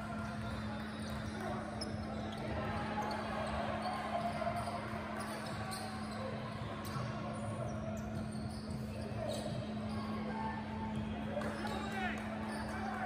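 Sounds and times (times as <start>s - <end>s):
murmur of crowd voices: 0.0s - 13.0s.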